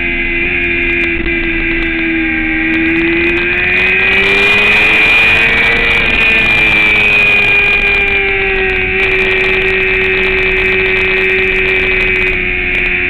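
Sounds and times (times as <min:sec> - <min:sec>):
racing motorcycle engine: 0:00.0 - 0:13.0.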